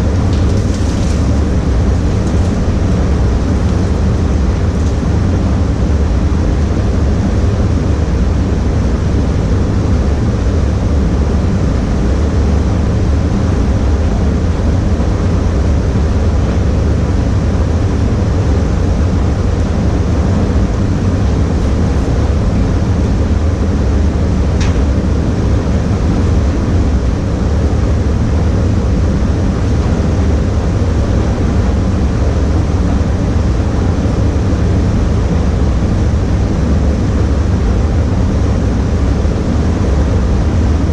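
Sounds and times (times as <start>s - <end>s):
spray booth air system rumble: 0.0s - 40.9s.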